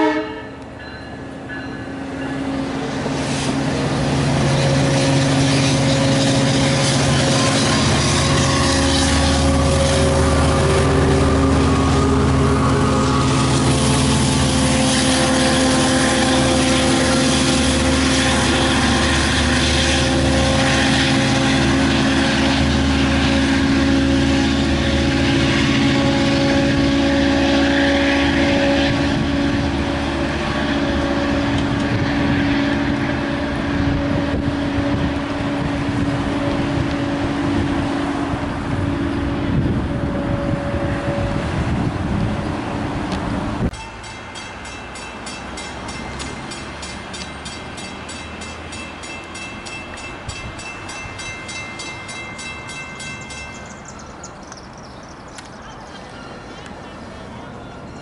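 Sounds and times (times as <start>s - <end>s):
diesel locomotive engine drone: 0.0s - 58.0s
rumble of moving train: 0.0s - 58.0s.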